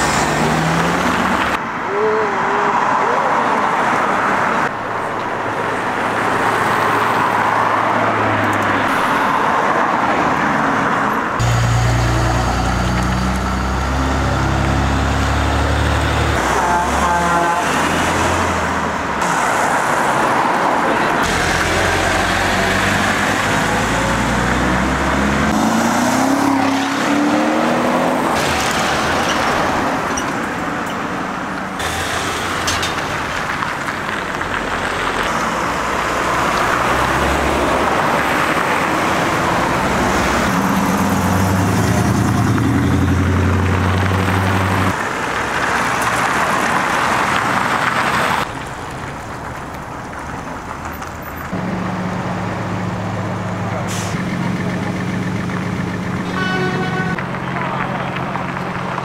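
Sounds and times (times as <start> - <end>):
cars driving past: 0.0 - 59.0.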